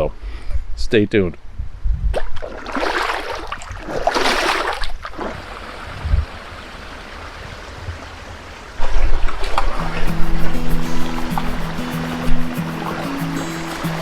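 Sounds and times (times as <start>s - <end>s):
creek water splashing and running: 2.2s - 14.0s.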